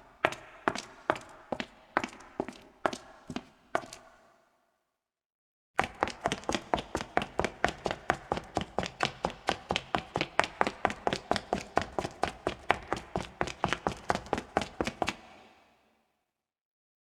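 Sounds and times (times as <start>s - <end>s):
high heels on concrete: 0.0s - 4.2s, 5.8s - 15.6s.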